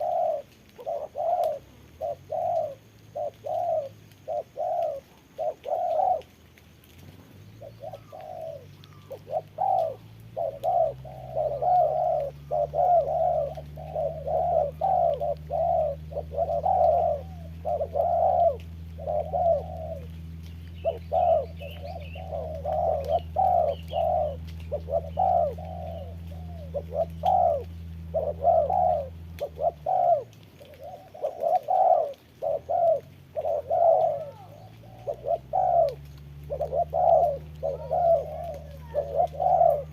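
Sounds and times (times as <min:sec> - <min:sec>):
doves cooing: 0:00.0 - 0:39.9
steady low hum: 0:00.0 - 0:39.9.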